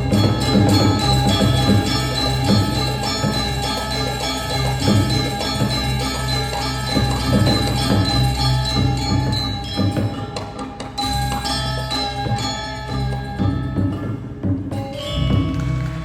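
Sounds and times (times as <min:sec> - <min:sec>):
drum strokes: 0:00.0 - 0:16.0
ringing metallophones and gongs: 0:00.0 - 0:16.0.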